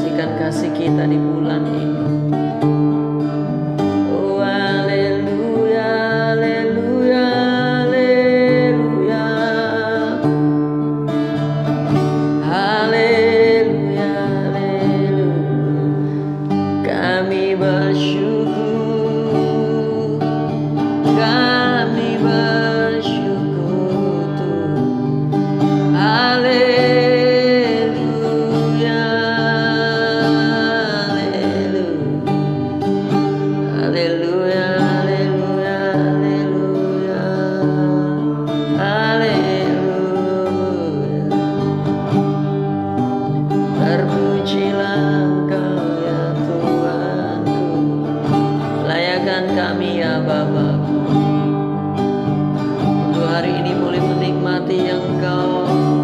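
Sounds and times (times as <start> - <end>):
person singing worship song: 0.0 - 3.2, 3.8 - 56.0
plucked guitar: 0.0 - 56.0.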